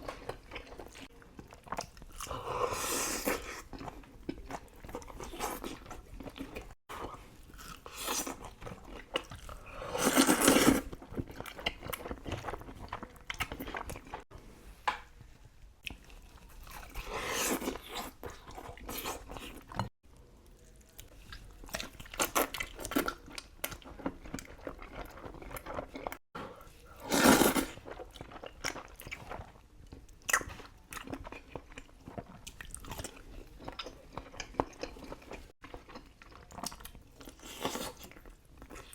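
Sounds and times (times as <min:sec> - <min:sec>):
person chewing noodles: 0:00.0 - 0:14.3, 0:15.8 - 0:38.9.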